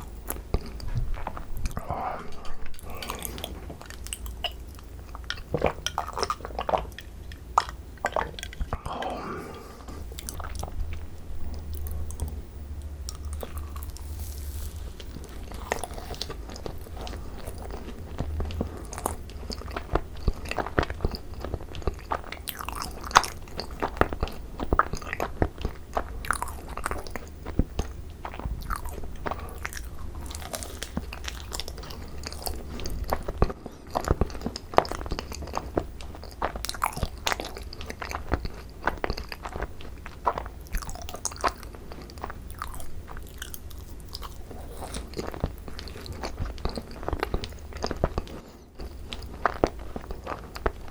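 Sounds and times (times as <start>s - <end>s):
crunchy biting and chewing: 0.0s - 50.9s.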